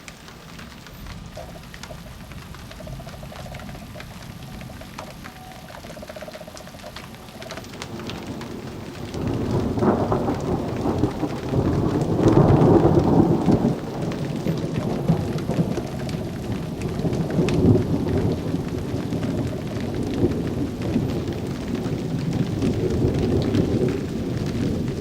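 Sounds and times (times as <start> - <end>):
rain pattering and dripping: 0.0 - 25.0
thunder rumbling: 0.3 - 25.0.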